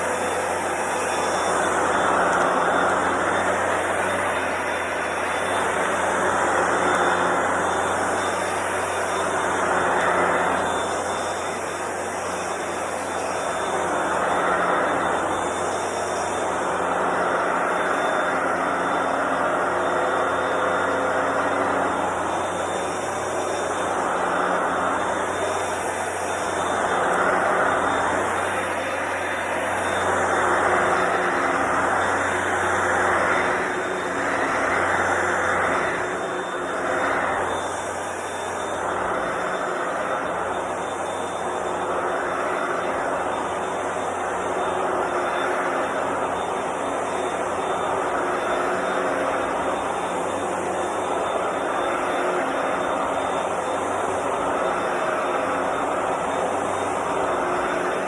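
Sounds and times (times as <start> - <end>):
carpet cleaner motor whirring: 0.0 - 58.0.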